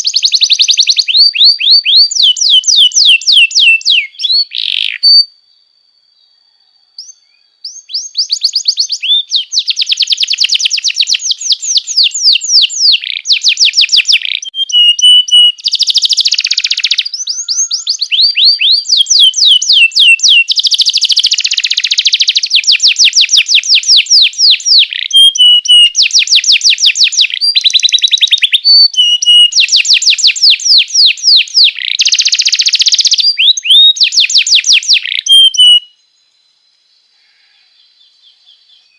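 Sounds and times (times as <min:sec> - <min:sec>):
canary singing trills: 0:00.0 - 0:05.4, 0:06.2 - 0:36.1.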